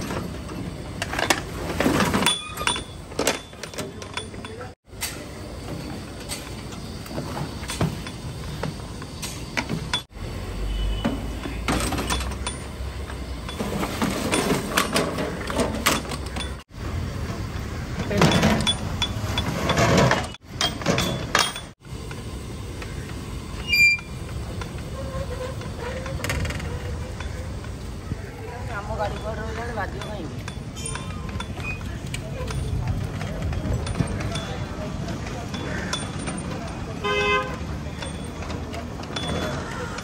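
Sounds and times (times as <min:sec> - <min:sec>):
street noise: 0:00.0 - 0:40.0.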